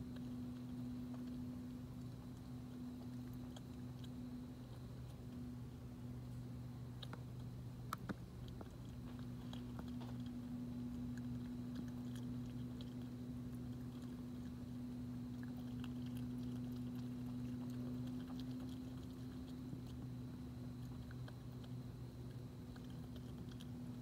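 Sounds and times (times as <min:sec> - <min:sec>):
animal crunching food: 0:00.0 - 0:24.0
steady low hum: 0:00.0 - 0:24.0.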